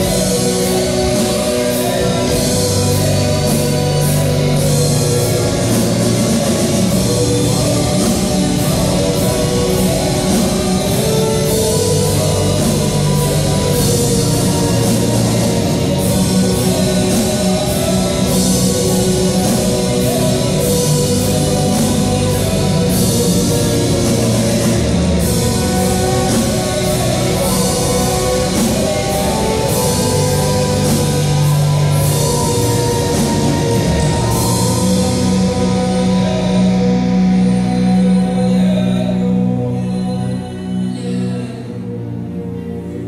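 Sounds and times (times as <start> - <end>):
drum kit beat: 0.0 - 38.0
guitars: 0.0 - 43.0
held low tones: 0.0 - 43.0.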